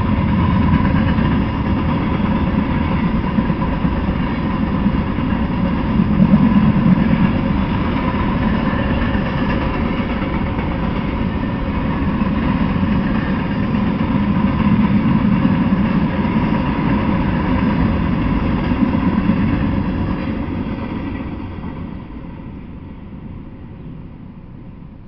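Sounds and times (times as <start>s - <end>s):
freight train rolling past: 0.0s - 25.0s.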